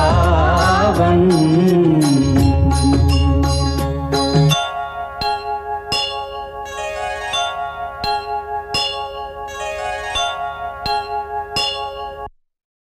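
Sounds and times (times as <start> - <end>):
bell-like tones music: 0.0 - 12.3.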